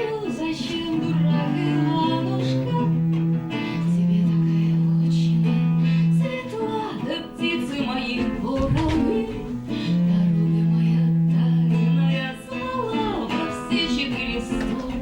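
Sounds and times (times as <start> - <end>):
plucked strings: 0.0 - 15.0.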